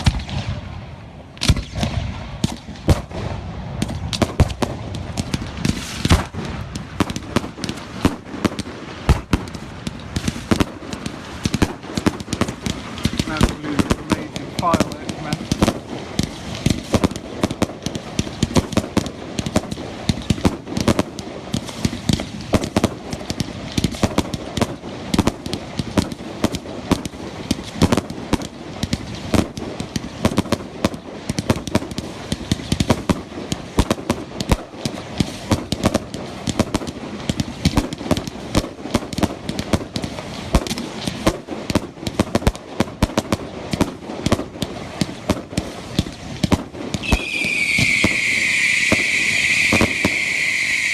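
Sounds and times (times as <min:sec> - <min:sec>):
fireworks bangs: 0:00.0 - 0:50.9.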